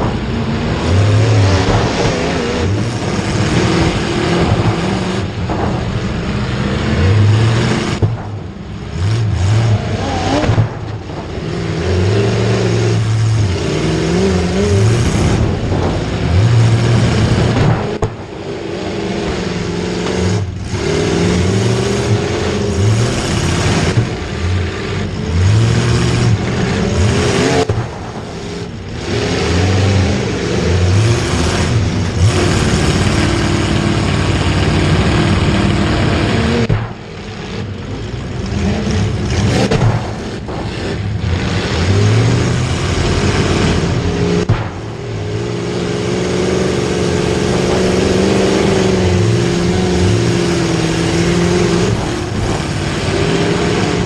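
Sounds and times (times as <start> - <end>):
vehicle engines revving: 0.0 - 54.0.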